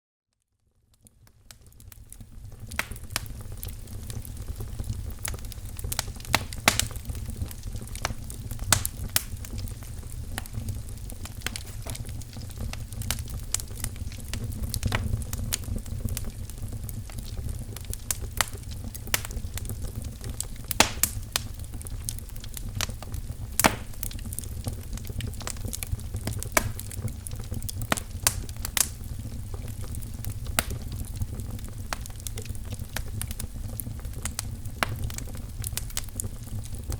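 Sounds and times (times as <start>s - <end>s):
wood fire crackling: 0.8s - 36.9s.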